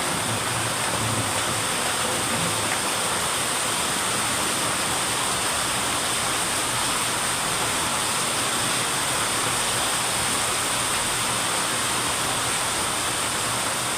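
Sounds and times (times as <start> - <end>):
rain falling: 0.0 - 13.9.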